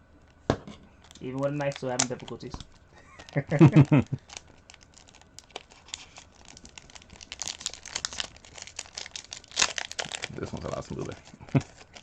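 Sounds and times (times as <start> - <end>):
plastic packaging crinkling and tearing: 1.0 - 12.0.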